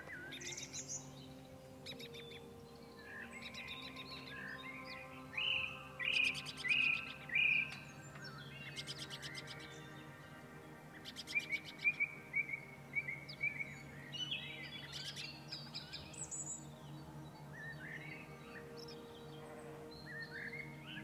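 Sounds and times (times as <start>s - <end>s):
soft sustained low tones: 0.0s - 21.0s
songbirds singing: 0.0s - 21.0s.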